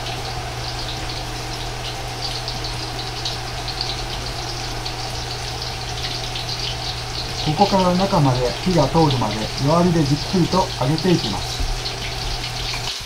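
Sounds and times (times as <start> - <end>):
low hum: 0.0 - 12.9
oil bubbling and sizzling: 0.0 - 13.0.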